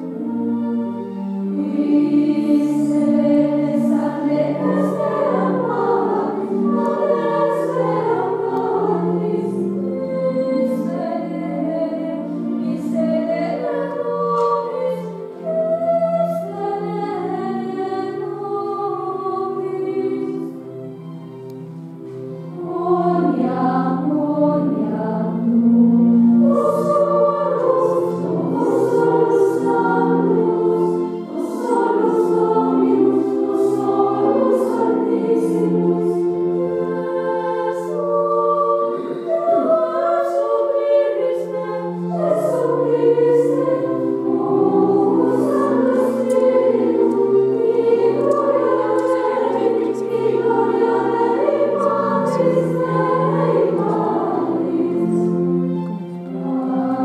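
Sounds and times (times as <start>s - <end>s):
group singing a hymn: 0.0s - 20.7s, 22.5s - 57.0s.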